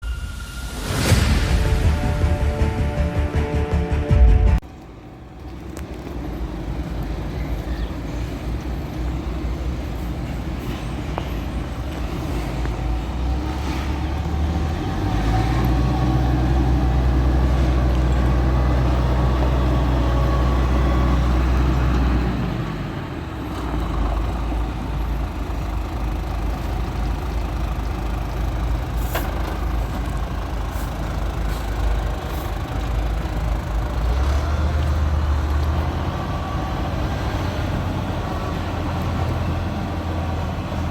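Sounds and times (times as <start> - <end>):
truck diesel engine running: 0.8 - 40.9.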